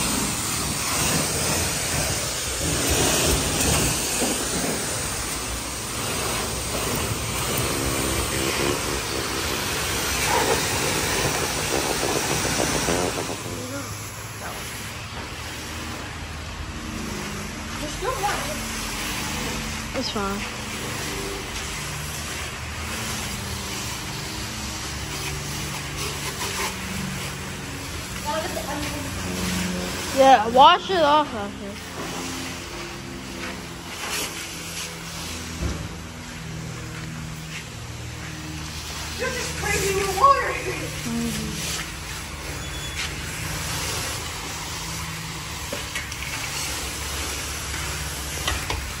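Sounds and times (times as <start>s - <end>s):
pressure washer spraying car: 0.0s - 49.0s.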